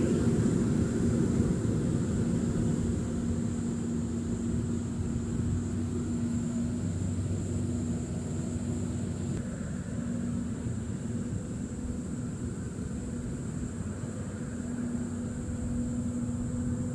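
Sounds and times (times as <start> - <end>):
harvester engine drone: 0.0 - 16.9.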